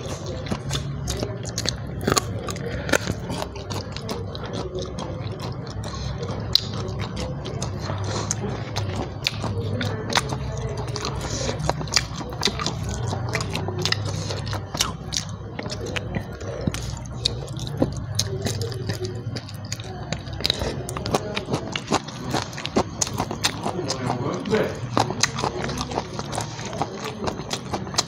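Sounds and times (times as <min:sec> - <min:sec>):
person chewing food: 0:00.0 - 0:28.0
steady low hum: 0:00.0 - 0:28.0.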